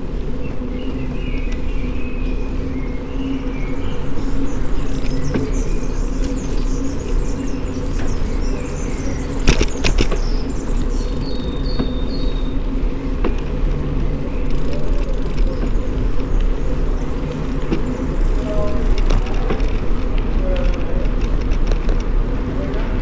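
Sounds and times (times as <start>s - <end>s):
bicycle tyres rumbling on asphalt: 0.0s - 23.0s.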